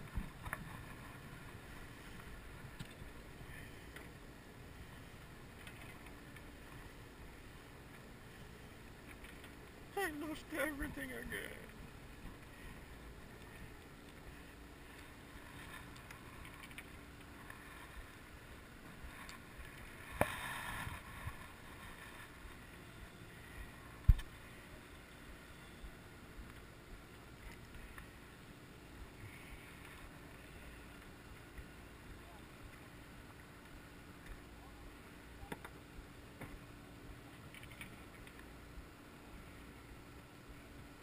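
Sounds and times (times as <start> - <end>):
boat ambience: 0.0 - 41.0.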